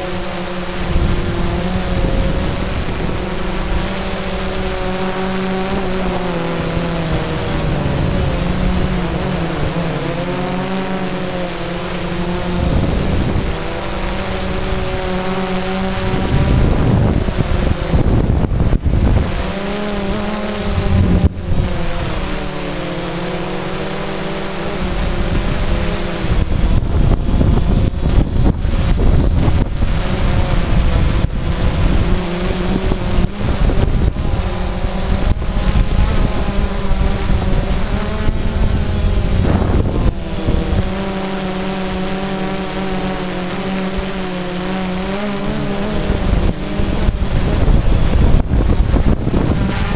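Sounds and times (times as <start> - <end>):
wind noise on microphone: 0.0 - 49.9
drone propellers whining: 0.1 - 49.9.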